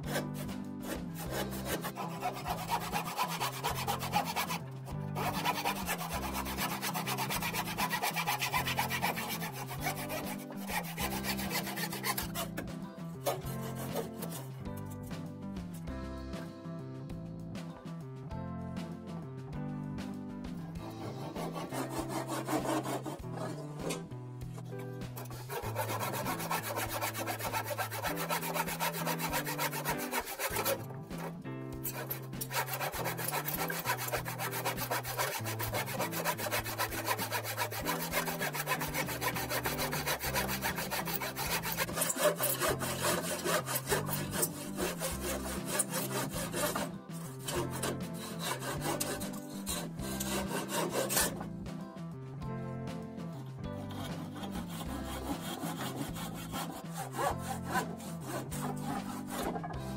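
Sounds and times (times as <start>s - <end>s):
handsaw cutting wood: 0.0s - 15.2s, 20.7s - 24.1s, 25.2s - 51.5s, 53.4s - 59.9s
quiet background music: 0.0s - 59.9s.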